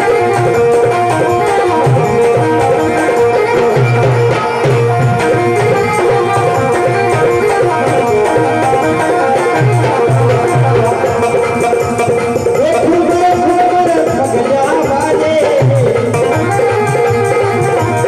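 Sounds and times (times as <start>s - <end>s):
barrel drum hand-beaten rhythm: 0.0s - 18.0s
harmonium and keyboard melody: 0.0s - 18.0s.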